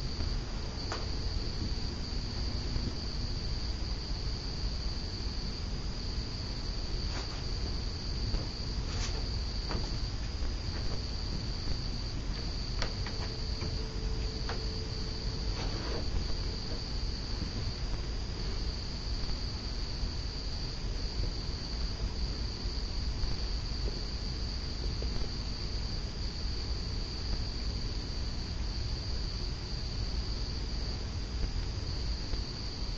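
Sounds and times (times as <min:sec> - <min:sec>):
low steady rumble: 0:00.0 - 0:29.7
crickets chirring: 0:00.0 - 0:32.9
faint hum: 0:00.0 - 0:32.9.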